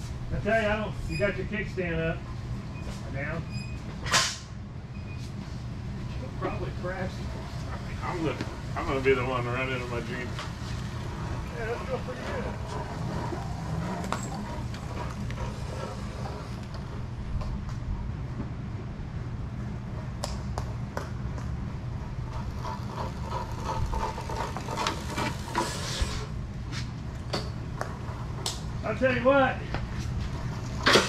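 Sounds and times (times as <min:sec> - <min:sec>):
electric scooter rumble: 0:05.4 - 0:29.3, 0:29.9 - 0:31.0.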